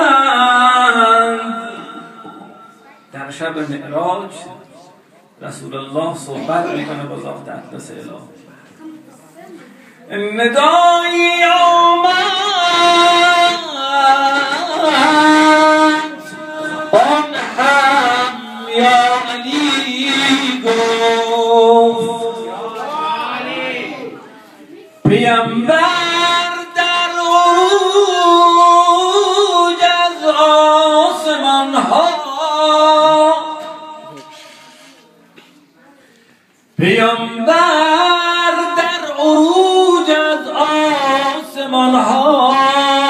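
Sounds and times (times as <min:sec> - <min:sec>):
man chanting: 0:00.0 - 0:04.6, 0:10.1 - 0:24.2, 0:25.1 - 0:34.8, 0:36.8 - 0:43.0.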